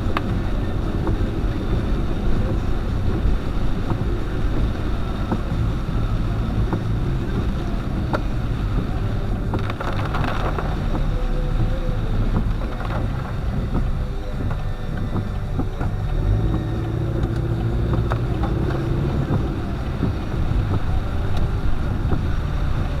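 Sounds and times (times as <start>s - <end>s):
car engine and road rumble: 0.0s - 23.0s
raindrops tapping: 0.0s - 23.0s.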